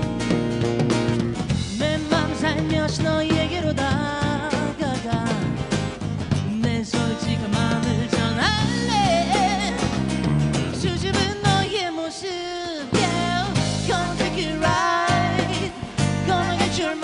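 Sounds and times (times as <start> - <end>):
band playing rock song: 0.0 - 17.0
person singing: 1.7 - 5.7, 6.3 - 10.0, 10.7 - 17.0.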